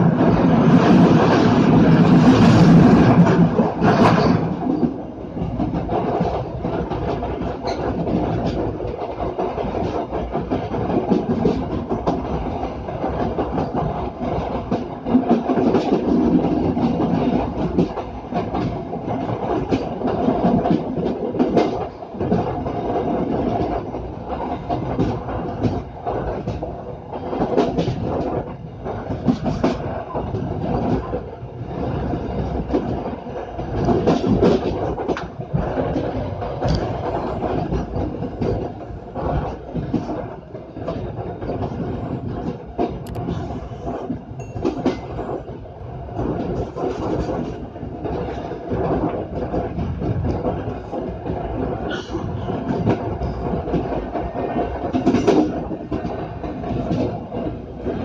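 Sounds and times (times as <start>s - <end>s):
clacks over rail joints: 0.0s - 58.0s
train wheels rumbling on rail: 0.0s - 58.0s.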